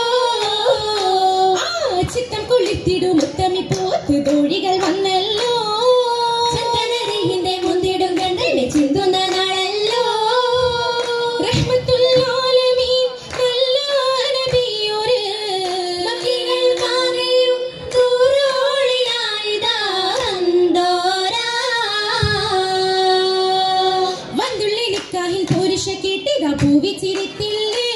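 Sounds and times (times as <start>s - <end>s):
hand claps: 0.0s - 18.4s, 20.1s - 20.6s, 24.4s - 27.9s
women singing: 0.0s - 27.9s.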